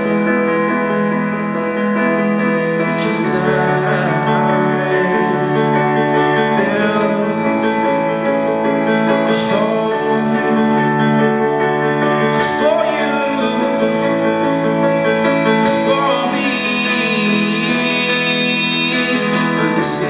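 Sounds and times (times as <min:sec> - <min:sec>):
keyboard chords: 0:00.0 - 0:20.0.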